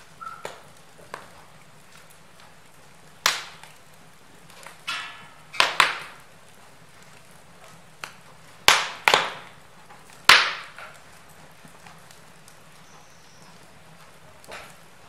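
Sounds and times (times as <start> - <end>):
faint fire hiss: 0.0 - 15.0
logs crackling and popping: 0.0 - 15.0.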